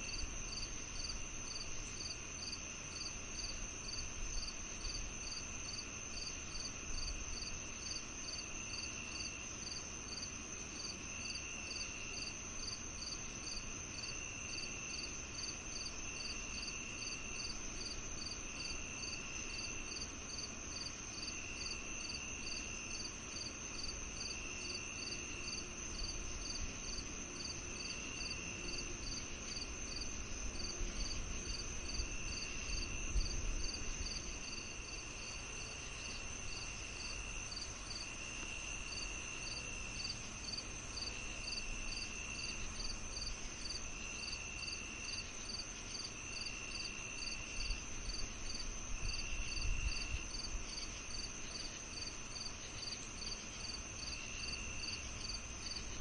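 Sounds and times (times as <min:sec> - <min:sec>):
lower insect trill: 0:00.0 - 0:56.0
pulsed cricket chirp: 0:00.0 - 0:56.0.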